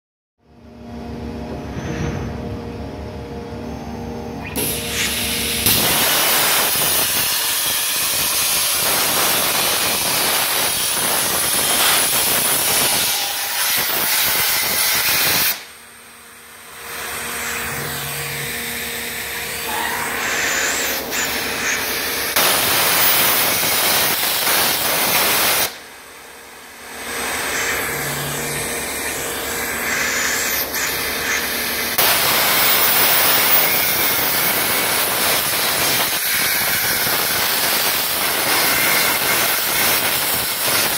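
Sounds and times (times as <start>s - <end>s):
machine hum with faint tones: 0.4s - 40.9s
plasma cutter hissing: 4.4s - 15.7s, 17.4s - 25.8s, 26.9s - 40.9s.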